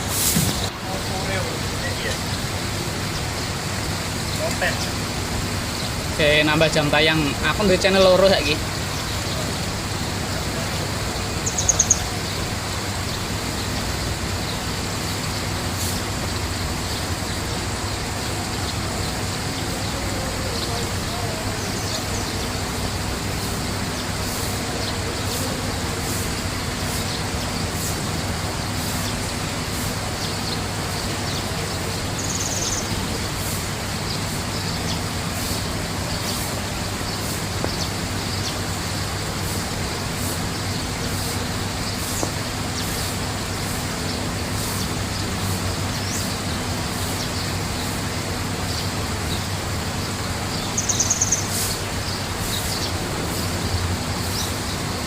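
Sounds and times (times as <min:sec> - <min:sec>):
steady even background noise: 0:00.0 - 0:55.0.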